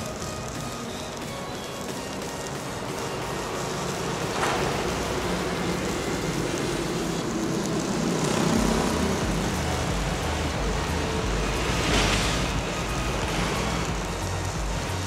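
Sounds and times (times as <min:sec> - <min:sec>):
welding arc sizzling: 0:00.0 - 0:15.0.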